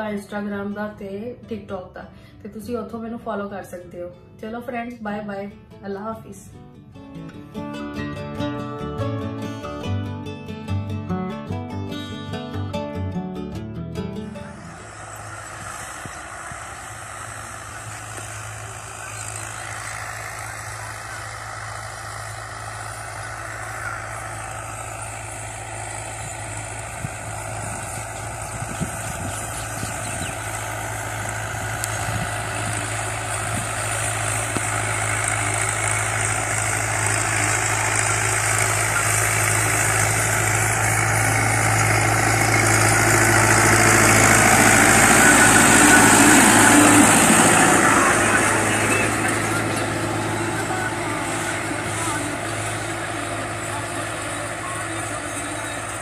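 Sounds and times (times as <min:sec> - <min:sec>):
tractor engine running: 0:07.2 - 0:56.0.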